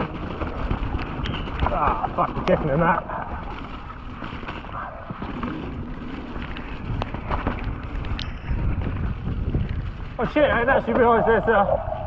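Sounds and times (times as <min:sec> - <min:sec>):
bike clicks and knocks: 0:00.0 - 0:10.2
tyres rumbling on dirt: 0:00.0 - 0:12.0
wind buffeting microphone: 0:00.0 - 0:12.0.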